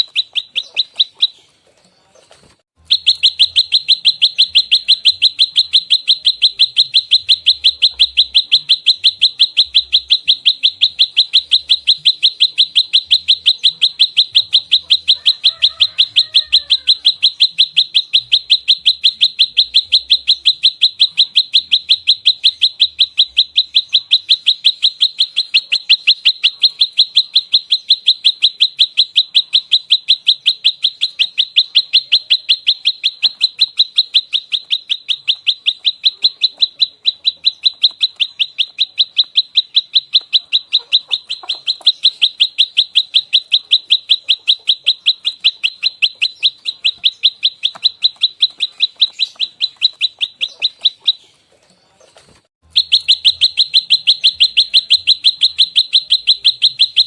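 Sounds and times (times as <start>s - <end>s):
songbird rapid chipping call: 0.0s - 1.5s, 2.8s - 51.4s, 52.6s - 57.0s.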